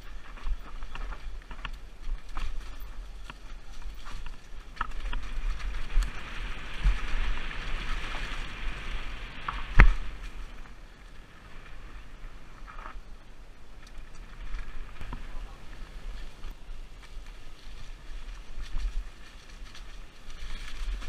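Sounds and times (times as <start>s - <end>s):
tyres on rocks and leaves: 0.0s - 21.0s.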